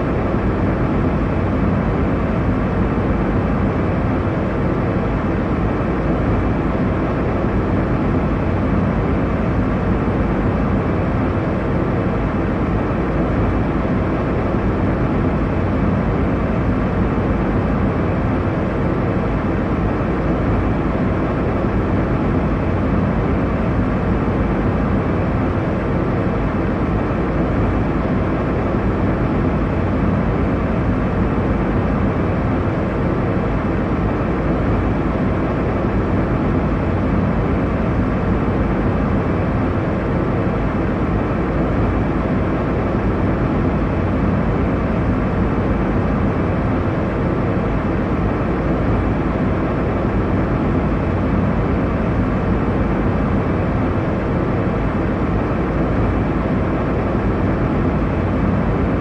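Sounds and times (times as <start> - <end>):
airliner engine and airflow rush: 0.0 - 59.0.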